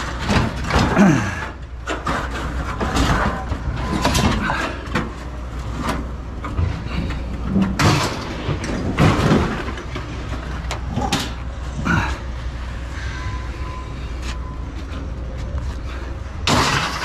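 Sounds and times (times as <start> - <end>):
scrap metal clanking and scraping: 0.0 - 12.2, 12.9 - 17.0
steady low rumble: 0.0 - 17.0.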